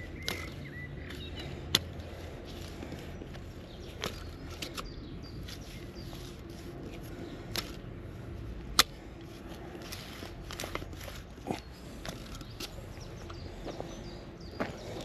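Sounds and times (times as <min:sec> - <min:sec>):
metal clicking on stones: 0:00.0 - 0:13.5
bulb planter crunching soil: 0:00.0 - 0:15.0.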